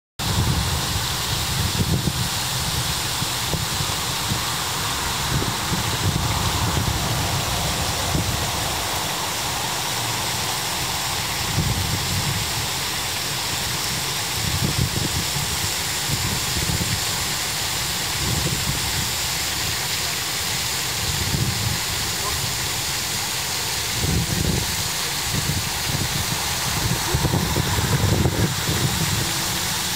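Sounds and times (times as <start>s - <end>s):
waterfall rushing and splashing: 0.2s - 29.9s.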